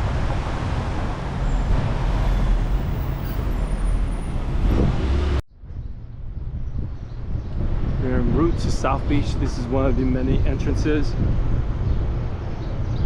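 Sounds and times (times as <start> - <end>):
passing cars and vehicles: 0.0 - 13.0.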